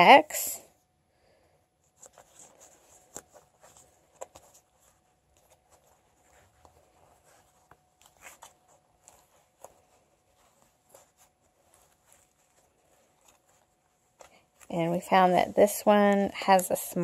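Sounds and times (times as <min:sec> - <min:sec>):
fabric pouch rustling: 0:01.6 - 0:17.0.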